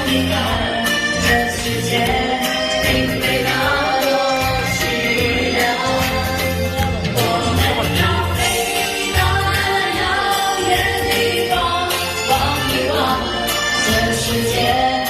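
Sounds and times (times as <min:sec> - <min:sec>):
band backing music: 0:00.0 - 0:15.0
steady bass line: 0:00.0 - 0:15.0
voices singing pop song: 0:00.0 - 0:15.0.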